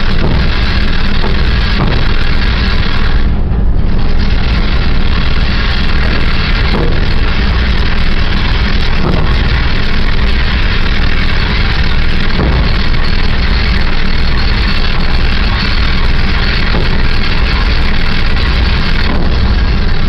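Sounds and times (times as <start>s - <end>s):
ship machinery drone: 0.0s - 20.0s.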